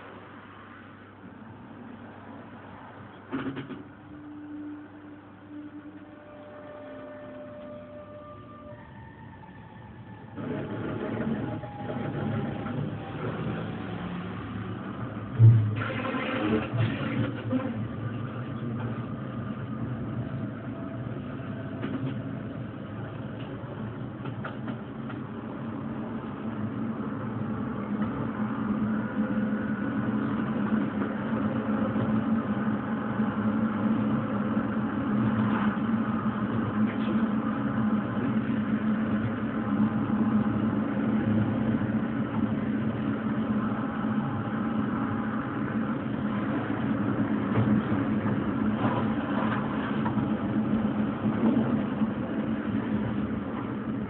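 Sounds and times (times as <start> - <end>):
tram humming on track: 0.0 - 54.0.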